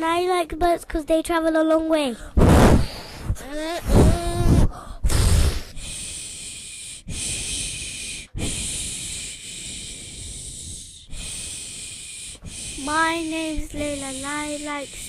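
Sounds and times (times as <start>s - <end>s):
child blowing hissing shhh: 2.2s - 15.0s
puff of breath on microphone: 2.2s - 15.0s.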